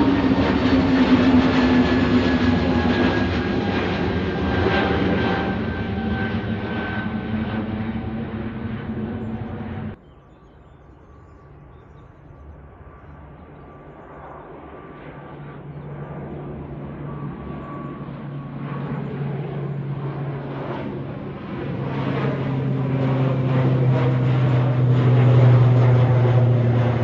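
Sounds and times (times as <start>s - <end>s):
aircraft engine low hum: 0.0s - 27.0s
airliner engines roaring: 0.0s - 27.0s.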